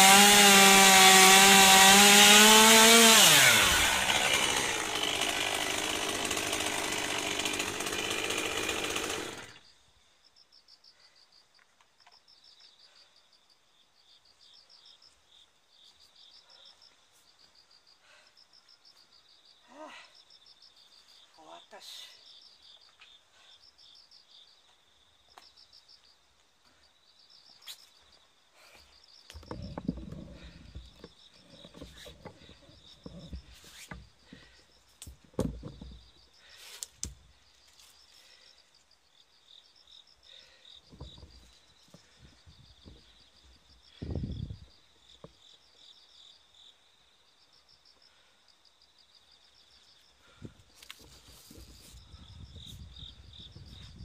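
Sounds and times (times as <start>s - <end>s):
crickets chirping: 9.6s - 54.0s.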